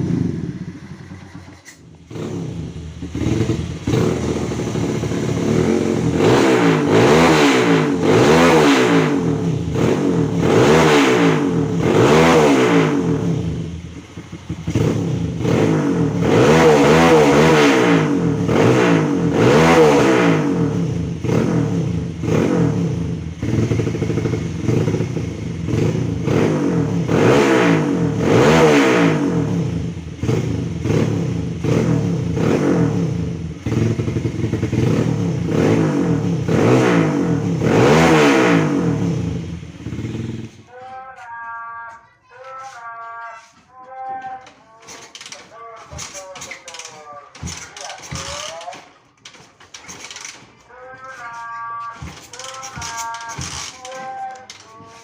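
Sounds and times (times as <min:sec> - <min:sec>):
motorcycle engine revving in blips: 0:00.0 - 0:40.8, 0:44.9 - 0:55.0.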